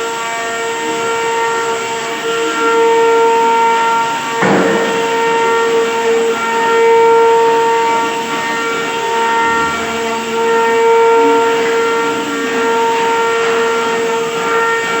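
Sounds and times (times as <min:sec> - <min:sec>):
woodworking machine whining: 0:00.0 - 0:15.0.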